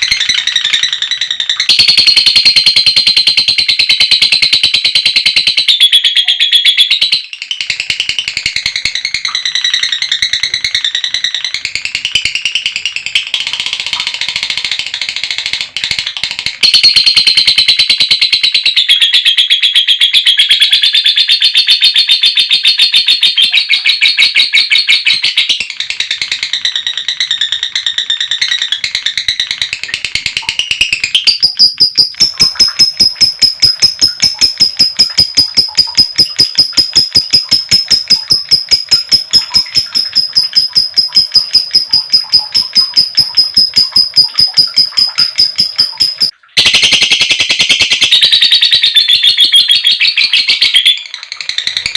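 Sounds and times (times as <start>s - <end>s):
sharp bird chirps: 0.0s - 14.7s, 16.5s - 51.9s
lovebird chattering trill: 0.0s - 15.0s, 16.6s - 51.9s.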